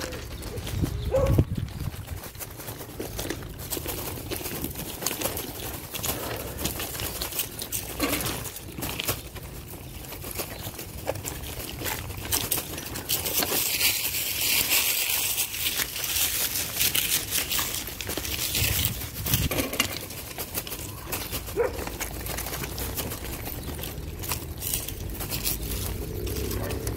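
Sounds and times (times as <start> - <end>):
footsteps crunching on leaves and gravel: 0.0 - 26.9.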